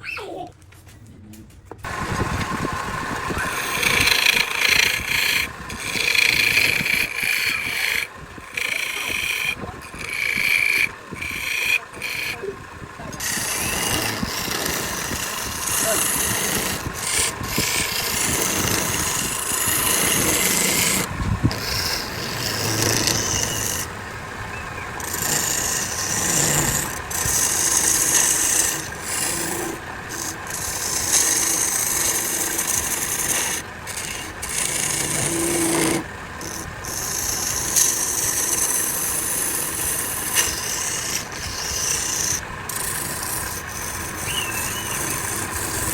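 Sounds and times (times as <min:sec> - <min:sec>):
wood rasping on a lathe: 0:01.8 - 0:45.9.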